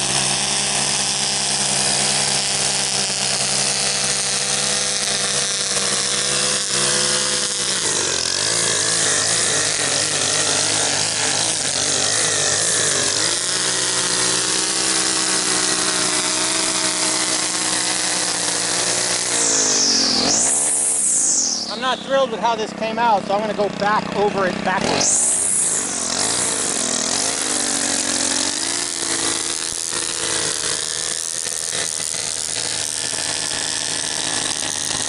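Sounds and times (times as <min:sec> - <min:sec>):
string trimmer engine running: 0:00.0 - 0:35.0.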